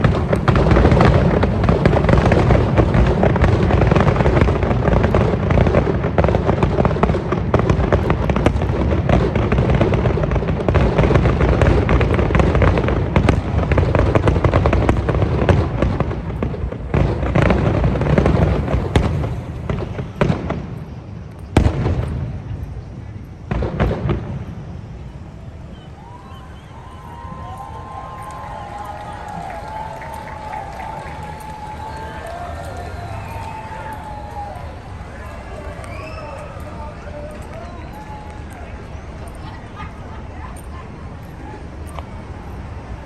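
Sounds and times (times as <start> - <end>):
fireworks booming and crackling: 0.0 - 43.0.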